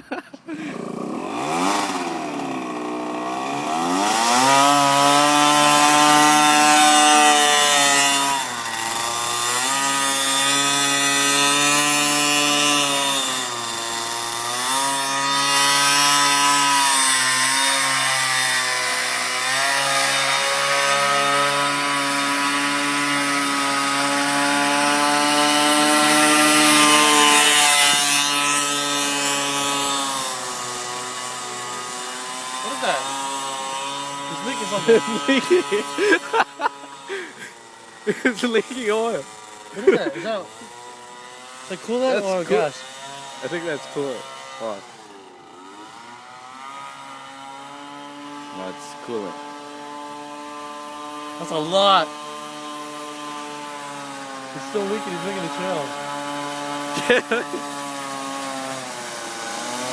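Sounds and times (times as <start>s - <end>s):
small engine revving hard: 0.1s - 59.9s.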